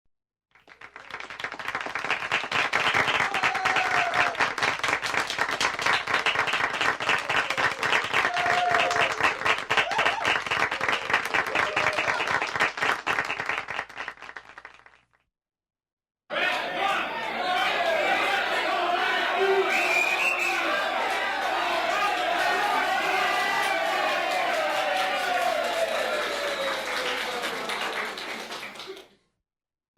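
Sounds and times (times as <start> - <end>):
people applauding: 0.6 - 15.2, 16.3 - 29.2
people cheering: 0.9 - 12.8, 16.3 - 29.1.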